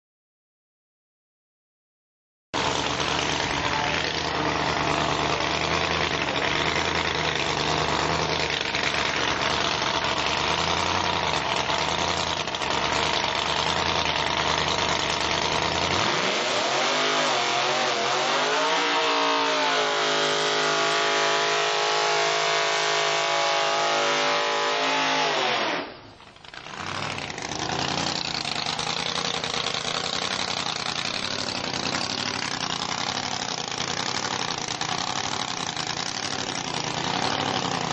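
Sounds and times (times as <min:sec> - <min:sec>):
drag racing car engines: 0:02.6 - 0:37.9.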